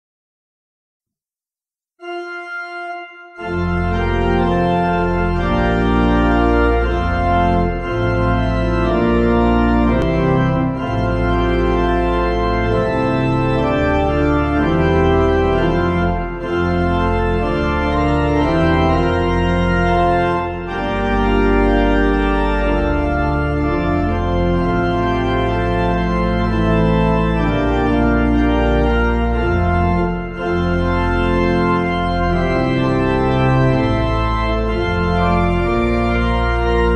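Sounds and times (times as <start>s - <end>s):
organ chords over deep bass: 2.0s - 36.9s.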